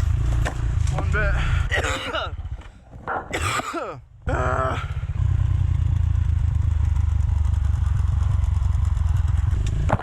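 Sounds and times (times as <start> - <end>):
dirt bike engine: 0.0 - 10.0.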